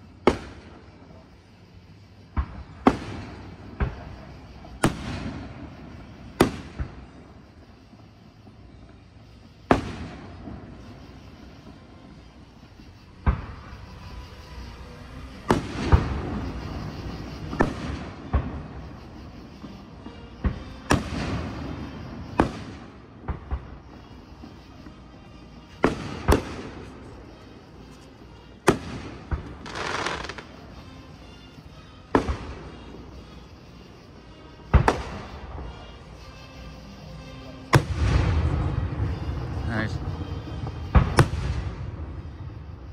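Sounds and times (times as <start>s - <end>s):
fireworks shells booming: 0.0s - 1.3s, 1.9s - 25.0s, 25.6s - 31.2s, 32.1s - 33.4s, 34.6s - 36.3s, 37.7s - 42.6s.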